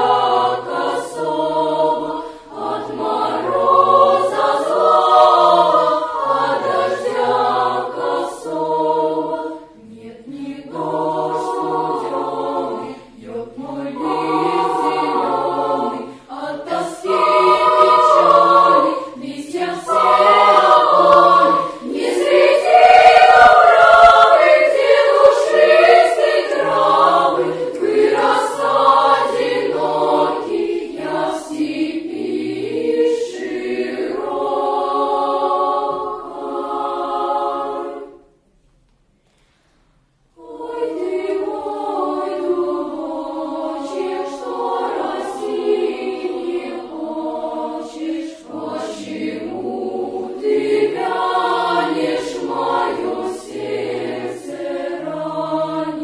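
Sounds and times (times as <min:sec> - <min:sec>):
children's choir singing: 0:00.0 - 0:38.5, 0:40.2 - 0:56.0.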